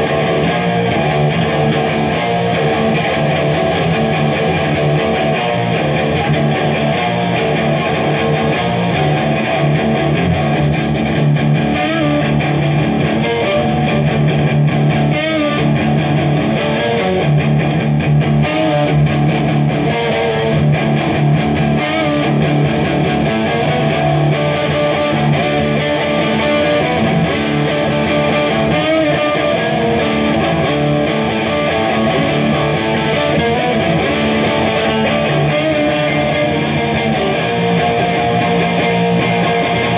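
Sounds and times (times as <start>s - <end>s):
electric guitar through amplifier: 0.0s - 39.9s.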